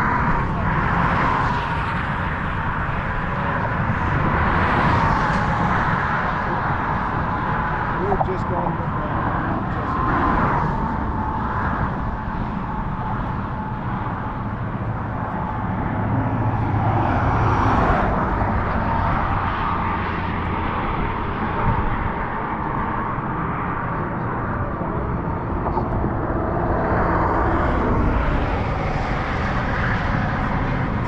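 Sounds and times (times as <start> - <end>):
passing traffic rumble: 0.0 - 31.0.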